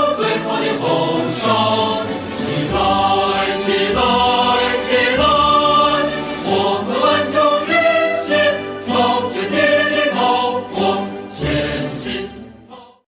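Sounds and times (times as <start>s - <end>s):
choir singing held notes: 0.0s - 13.0s.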